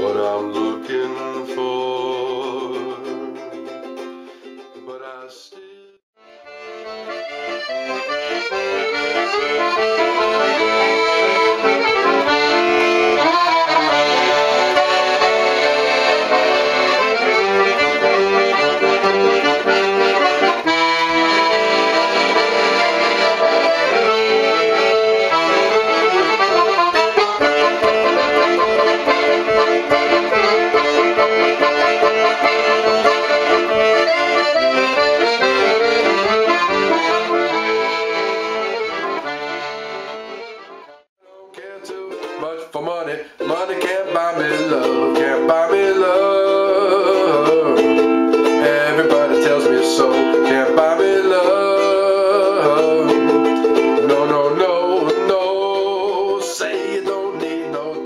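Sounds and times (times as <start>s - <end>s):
piano accordion melody: 6.2s - 41.1s, 44.2s - 56.1s.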